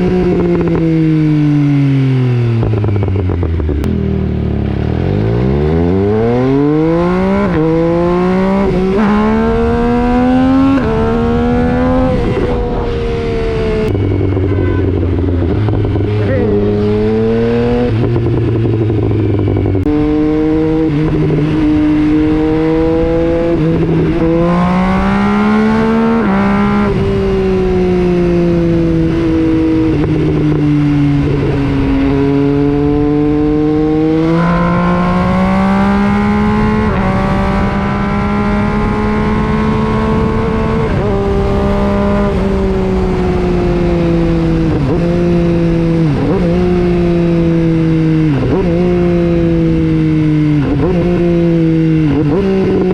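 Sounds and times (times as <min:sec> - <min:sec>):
motorcycle engine revving: 0:00.0 - 0:52.9
gear changes: 0:04.6 - 0:52.9.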